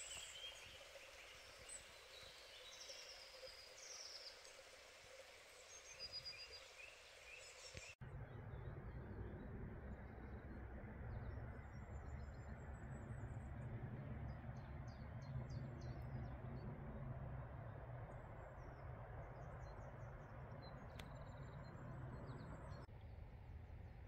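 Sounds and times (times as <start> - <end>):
songbirds chirping and trilling: 0.0 - 22.9
low rumble and hiss: 0.0 - 24.0.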